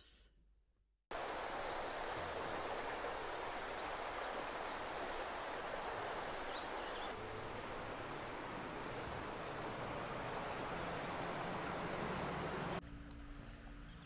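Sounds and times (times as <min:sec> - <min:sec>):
river rushing over rapids: 0:01.1 - 0:12.8.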